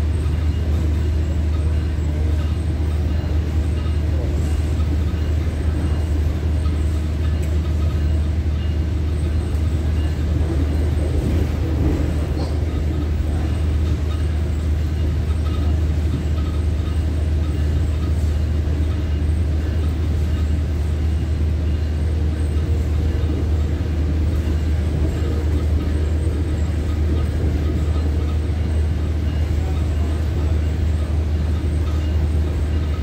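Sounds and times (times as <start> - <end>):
train rumbling inside coach: 0.0 - 33.0.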